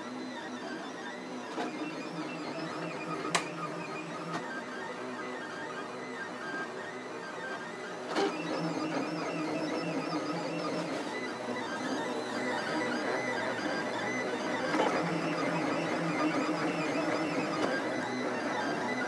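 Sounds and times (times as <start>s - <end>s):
stepper motors whining and buzzing: 0.0s - 19.0s.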